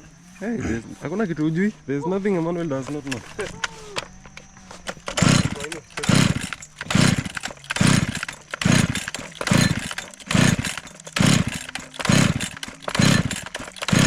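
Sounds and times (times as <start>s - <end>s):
chainsaw engine revving: 0.3s - 1.7s, 2.4s - 14.0s.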